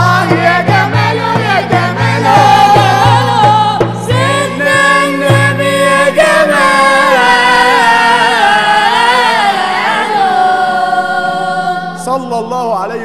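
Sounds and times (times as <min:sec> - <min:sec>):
group singing devotional chant: 0:00.0 - 0:13.0.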